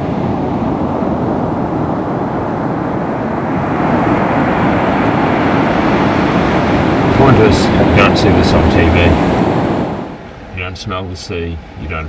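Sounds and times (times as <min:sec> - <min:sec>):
surf breaking on beach: 0:00.0 - 0:10.1
wind noise on microphone: 0:00.0 - 0:10.2.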